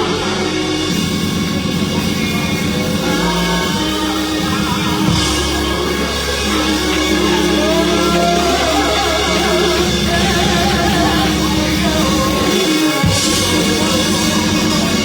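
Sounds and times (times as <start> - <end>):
steady bass: 0.0 - 15.0.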